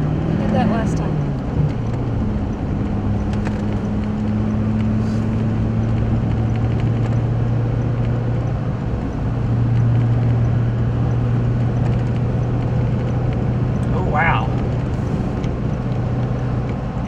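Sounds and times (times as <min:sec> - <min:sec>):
car engine drone: 0:00.0 - 0:17.0
road noise: 0:00.0 - 0:17.0.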